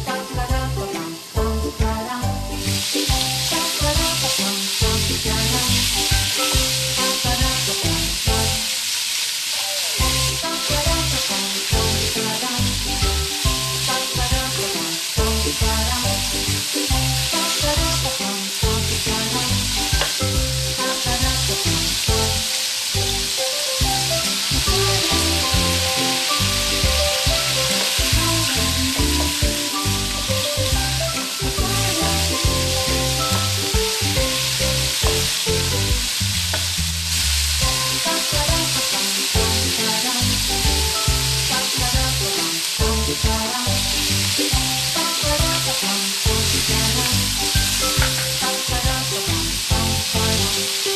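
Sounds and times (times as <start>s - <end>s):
background music: 0.0s - 9.1s, 9.8s - 50.9s
meat sizzling in a wok: 0.0s - 50.9s.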